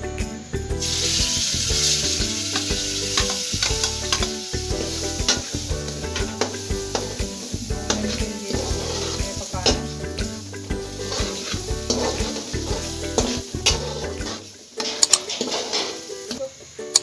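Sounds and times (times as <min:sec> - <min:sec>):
food sizzling in hot oil: 0:00.0 - 0:17.0
spatula scraping a pan: 0:01.8 - 0:10.0, 0:10.8 - 0:16.4.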